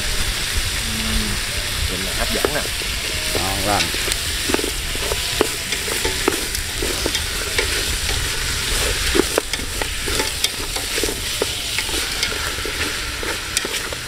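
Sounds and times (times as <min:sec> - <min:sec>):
chicken sizzling in a pot: 0:00.0 - 0:14.0
utensil scraping a pot: 0:02.1 - 0:14.0.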